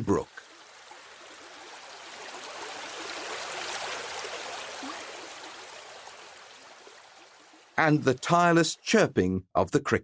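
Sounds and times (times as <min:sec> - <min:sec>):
water trickling over stones: 0:00.0 - 0:08.6.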